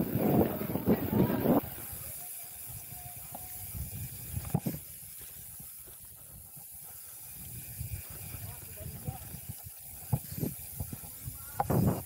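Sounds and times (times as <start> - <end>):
bike tyres rumbling on dirt: 0.0 - 12.0.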